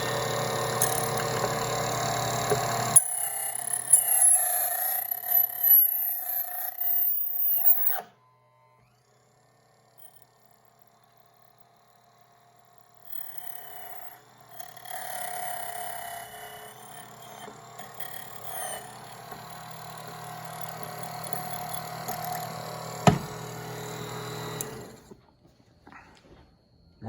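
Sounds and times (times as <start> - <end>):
key cutting machine running: 0.0 - 25.2
whining cutter: 0.0 - 25.2.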